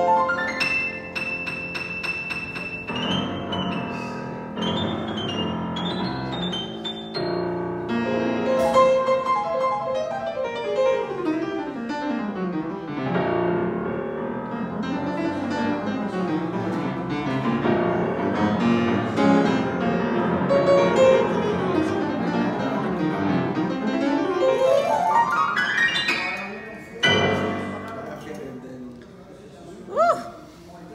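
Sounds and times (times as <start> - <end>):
solo grand piano: 0.0 - 28.2.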